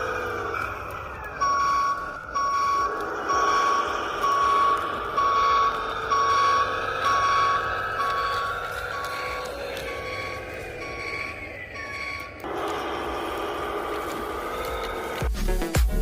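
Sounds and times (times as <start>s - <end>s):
reversing alarm beeping: 0.0s - 15.2s
engine hum: 0.0s - 16.0s.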